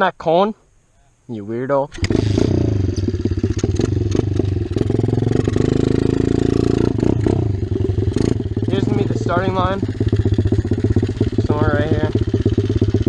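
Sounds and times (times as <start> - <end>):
sharp rattles: 1.9 - 13.0
dirt bike engine running: 2.0 - 13.0.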